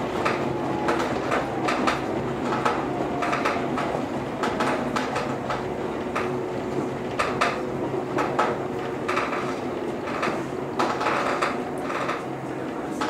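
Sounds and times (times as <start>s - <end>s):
electric train hum: 0.0s - 13.0s
train track noise: 0.0s - 13.0s
wheels clacking over rail joints: 0.0s - 13.0s.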